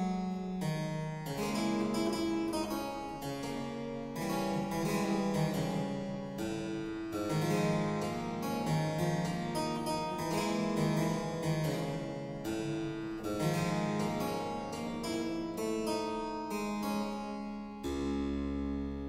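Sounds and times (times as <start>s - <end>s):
solo harpsichord boogie-woogie piece: 0.0s - 19.0s.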